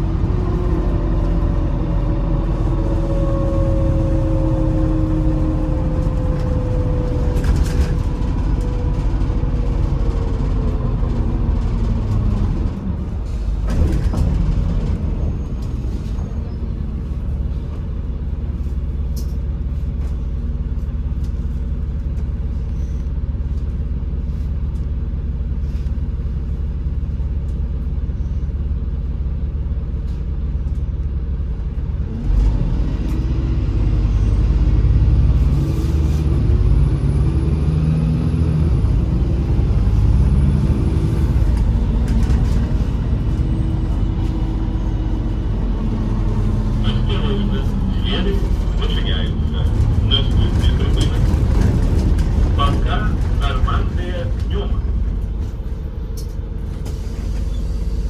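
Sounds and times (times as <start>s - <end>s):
bus drive whine: 0.0s - 58.0s
bus engine low rumble: 0.0s - 58.0s.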